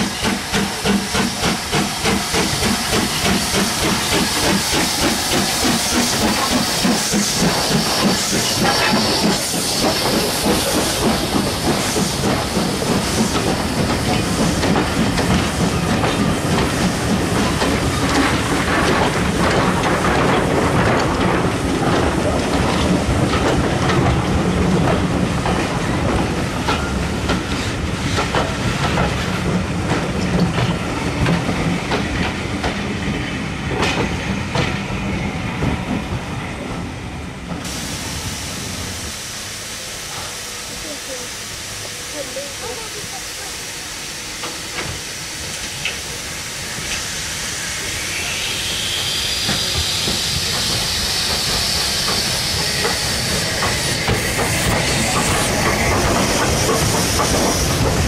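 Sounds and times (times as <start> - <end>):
train wheels clickety-clack: 0.0 - 37.9, 40.1 - 58.0
rhythmic hiss of steam: 0.0 - 58.0
steam locomotive passing: 0.0 - 58.0.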